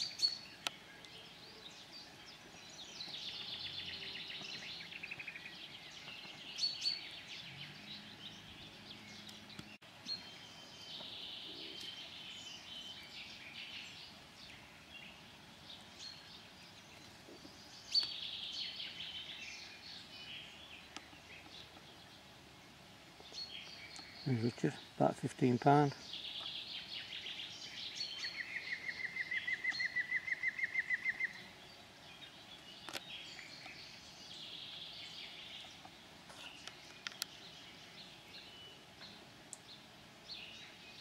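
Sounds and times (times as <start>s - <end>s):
faint outdoor background: 0.0s - 41.0s
songbirds chirping and trilling: 0.0s - 41.0s.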